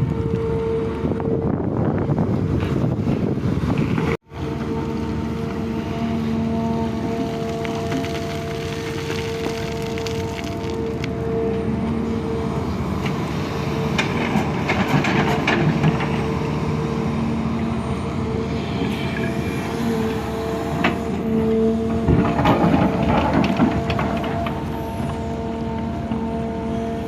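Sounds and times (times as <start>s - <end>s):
excavator engine and hydraulics whine: 0.0s - 27.0s.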